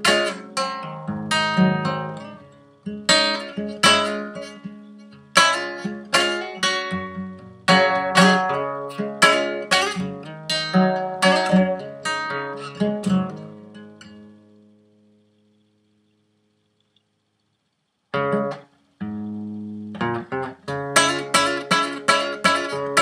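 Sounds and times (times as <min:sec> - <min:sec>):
classical guitar strummed chords: 0:00.0 - 0:16.5, 0:18.1 - 0:23.0.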